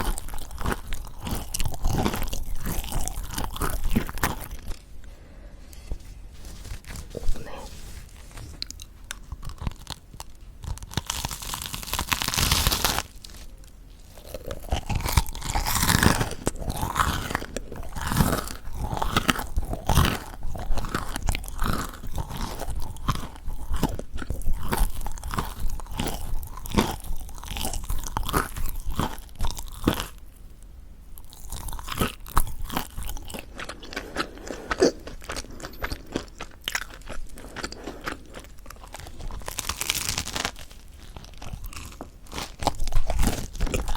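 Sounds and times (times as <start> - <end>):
crunching and chewing crispy bread: 0.0 - 5.1, 5.8 - 43.9.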